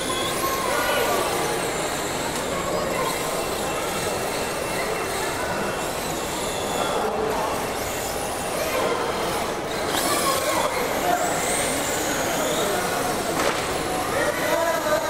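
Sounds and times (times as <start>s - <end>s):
crowd murmur: 0.0s - 15.0s
toy car electric motors whining: 0.0s - 15.0s.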